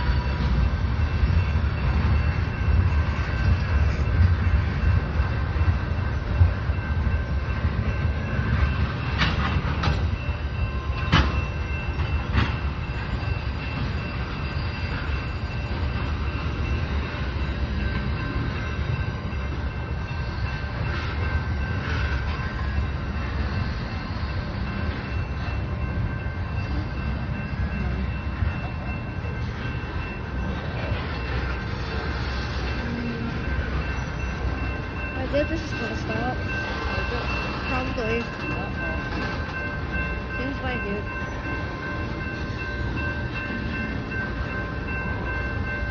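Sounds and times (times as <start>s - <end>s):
train wheels rumbling on track: 0.0s - 45.9s.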